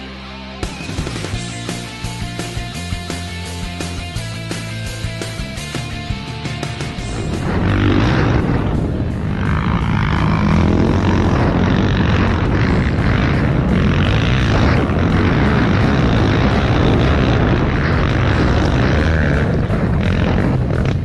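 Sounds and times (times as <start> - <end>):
quad bike engine revving: 0.6 - 21.0.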